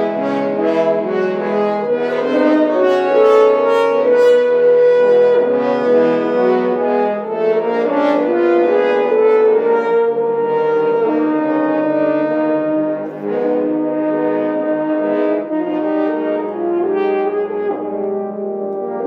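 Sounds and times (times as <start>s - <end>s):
brass ensemble chords: 0.0s - 19.0s.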